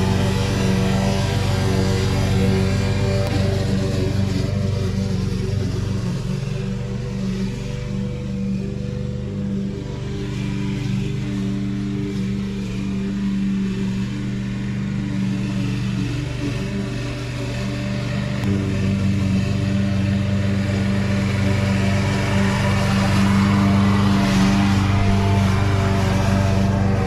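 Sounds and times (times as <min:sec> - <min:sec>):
lawn mower engine running: 0:00.0 - 0:27.0.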